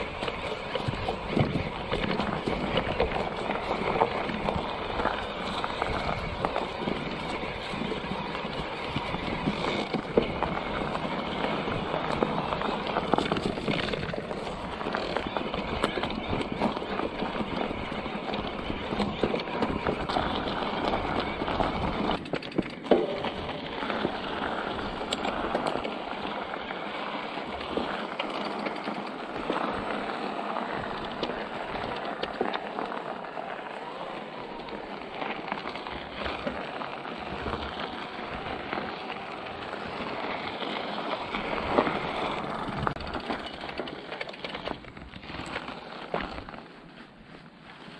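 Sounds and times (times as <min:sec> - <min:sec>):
bike tyres crunching over gravel: 0:00.0 - 0:47.9.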